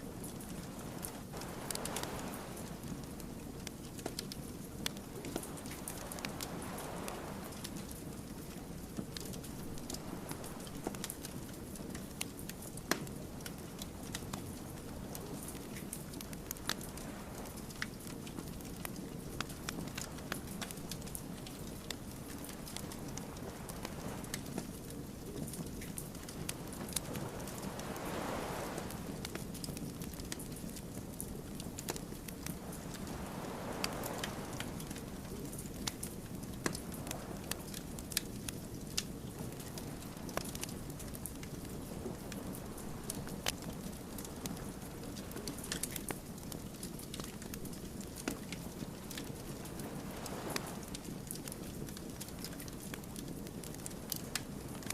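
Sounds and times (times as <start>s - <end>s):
campfire crackling and popping: 0.0s - 54.9s
low rush of flame: 0.0s - 54.9s.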